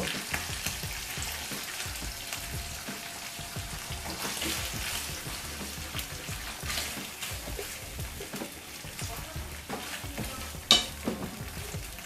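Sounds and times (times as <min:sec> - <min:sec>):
sauce frying in pan: 0:00.0 - 0:12.0.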